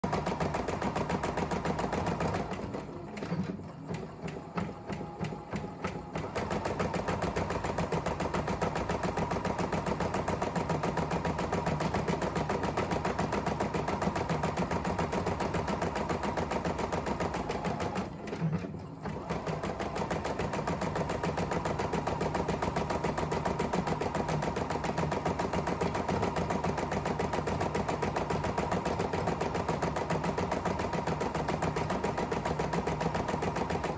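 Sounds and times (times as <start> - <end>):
embroidery machine stitching: 0.0 - 33.9.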